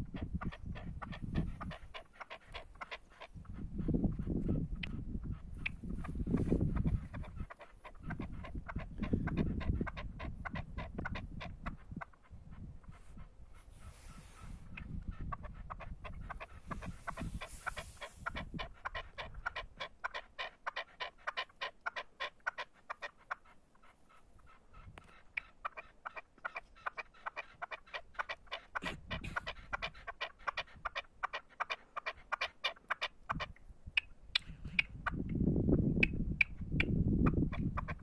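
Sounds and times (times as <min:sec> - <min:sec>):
partridge calling: 0:00.0 - 0:35.3, 0:36.0 - 0:38.0.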